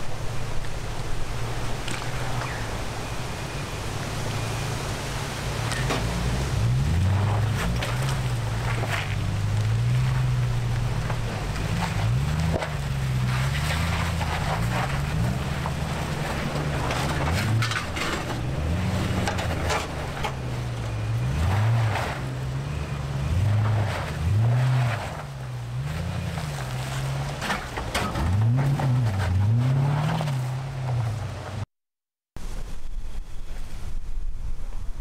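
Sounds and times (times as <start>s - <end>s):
car engine revving under load: 0.5s - 31.7s.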